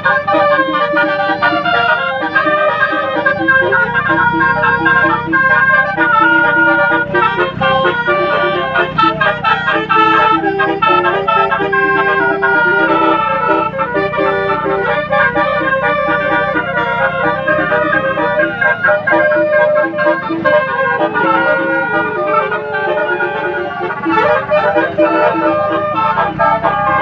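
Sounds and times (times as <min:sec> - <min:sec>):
bus horns playing a tune: 0:00.0 - 0:27.0.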